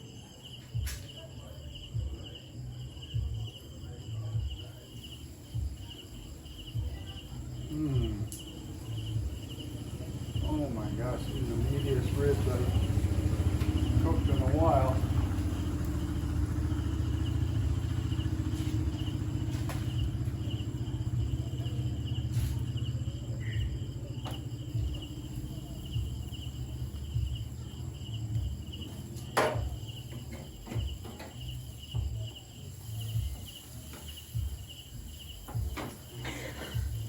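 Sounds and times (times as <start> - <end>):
crickets chirping: 0.0 - 37.0.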